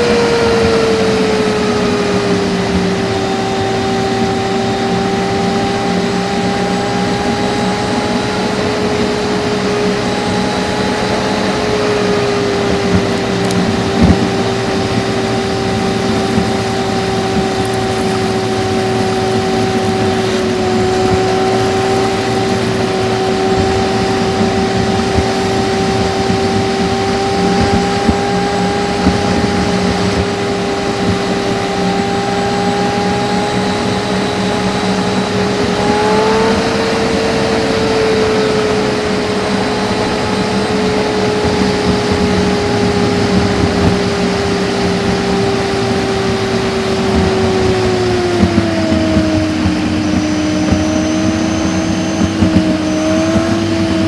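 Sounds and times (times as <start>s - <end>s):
sped-up engine hum: 0.0s - 54.0s.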